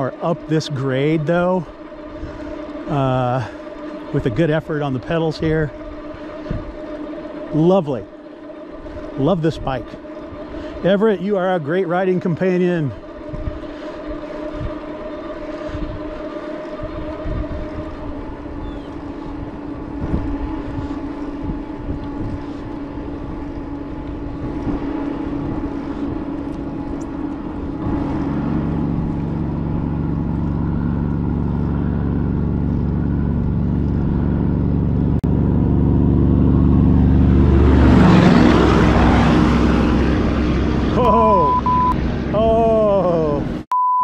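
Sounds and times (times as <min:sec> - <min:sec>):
wind buffeting microphone: 0:00.0 - 0:11.1, 0:12.2 - 0:41.0
deep vehicle engine drone: 0:00.0 - 0:44.0.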